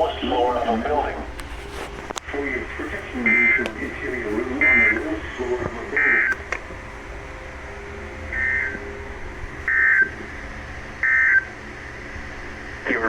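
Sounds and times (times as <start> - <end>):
low hum: 0.0 - 13.0
shrill two-tone data bursts: 2.4 - 13.0.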